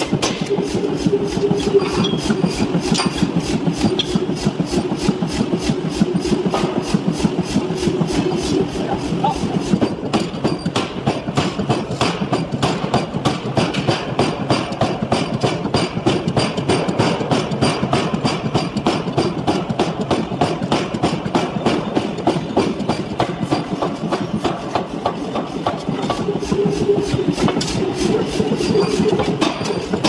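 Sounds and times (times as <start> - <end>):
machine rumble: 0.0 - 30.0
power hammer striking: 0.0 - 30.0.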